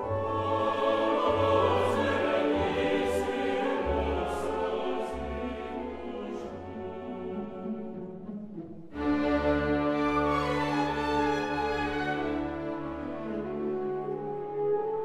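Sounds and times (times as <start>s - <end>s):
choir singing long notes: 0.0s - 15.0s
classical orchestral music: 0.0s - 15.0s.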